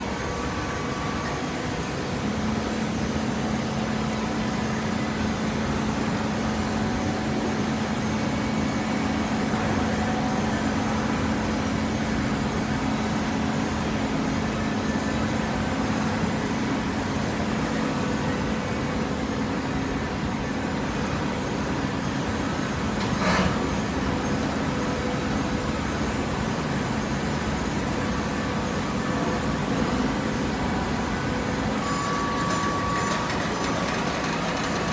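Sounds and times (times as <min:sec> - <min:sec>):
baler motor and pump hum: 0:00.0 - 0:34.9.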